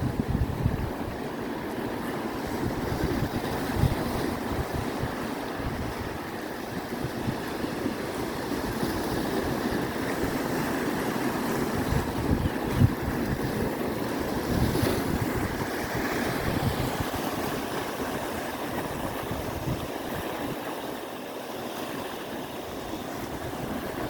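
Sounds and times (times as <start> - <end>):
wind gusting on microphone: 0.0 - 21.1, 22.5 - 24.0
ocean surf: 0.0 - 24.0.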